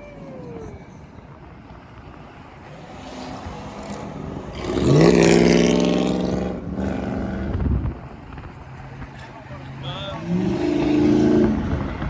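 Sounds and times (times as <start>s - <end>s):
vehicle engine revving: 2.0s - 12.0s.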